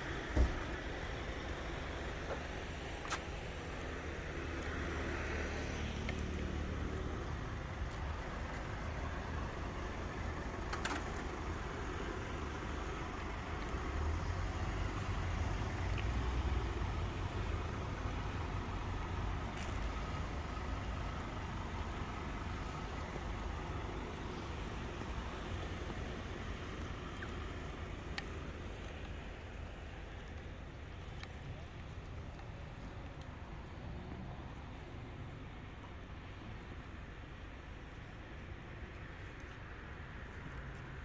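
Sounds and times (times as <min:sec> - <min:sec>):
engine running low rumble: 0:00.0 - 0:41.0.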